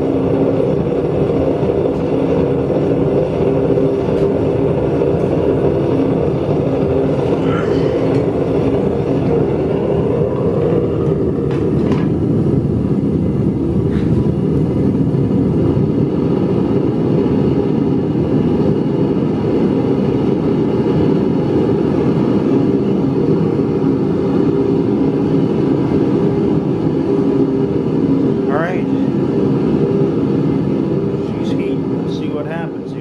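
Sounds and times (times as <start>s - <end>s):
furnace burner rushing: 0.0s - 33.0s.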